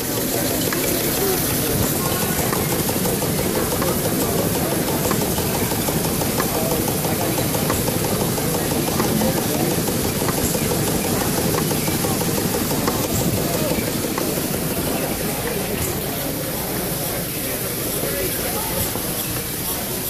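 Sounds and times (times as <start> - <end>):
model engines running: 0.0 - 20.0.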